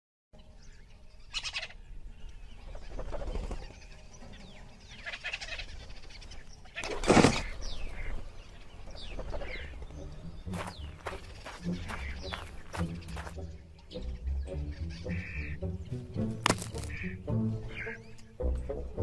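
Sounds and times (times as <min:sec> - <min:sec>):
birds calling: 0:00.4 - 0:19.0.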